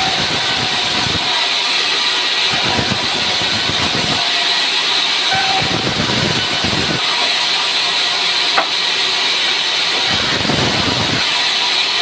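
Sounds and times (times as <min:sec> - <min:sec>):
sawmill hissing: 0:00.0 - 0:12.0.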